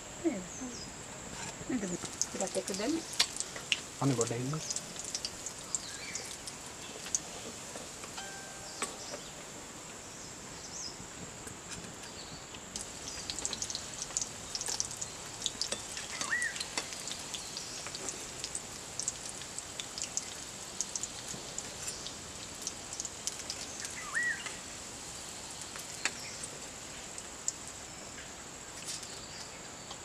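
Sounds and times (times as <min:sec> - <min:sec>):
fire crackling and oil popping: 0:01.2 - 0:09.3, 0:10.6 - 0:28.0.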